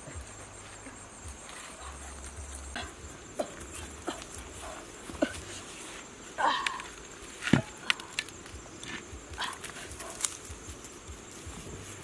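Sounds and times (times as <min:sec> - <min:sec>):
crackling wood fire: 0:01.0 - 0:12.0.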